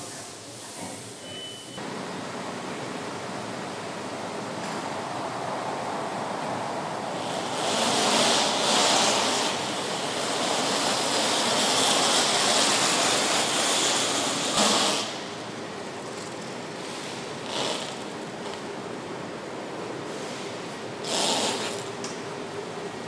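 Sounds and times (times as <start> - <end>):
steady rushing hiss: 1.8 - 23.0.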